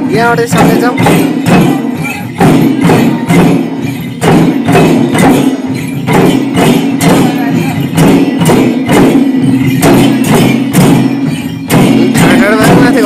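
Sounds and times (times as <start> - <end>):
hand drums beaten in rhythm: 0.0 - 13.0.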